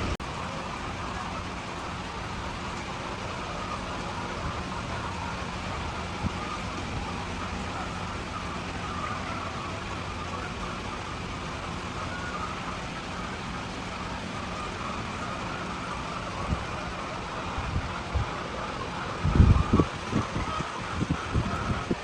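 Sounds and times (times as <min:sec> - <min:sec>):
motor hum with wavering whine: 0:00.0 - 0:22.0.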